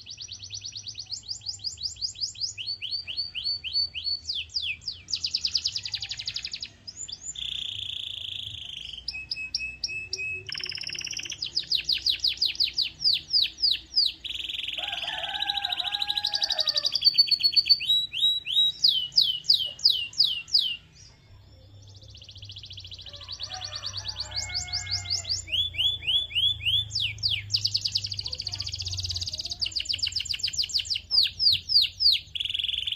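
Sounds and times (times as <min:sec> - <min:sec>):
canary singing trills: 0:00.0 - 0:32.9.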